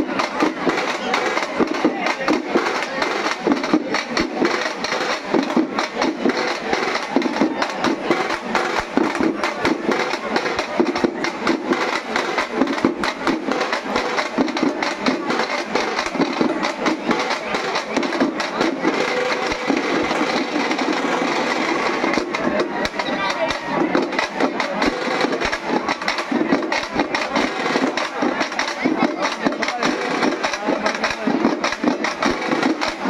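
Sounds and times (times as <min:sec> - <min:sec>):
crowd voices: 0:00.0 - 0:33.0
fast drumming with sticks: 0:00.0 - 0:33.0.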